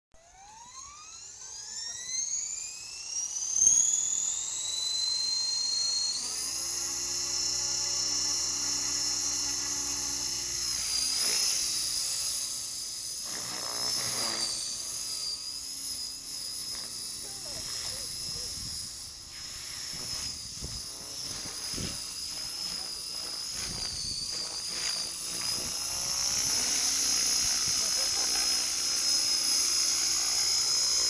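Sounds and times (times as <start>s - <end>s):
model helicopter rotor whine: 0.2s - 31.0s.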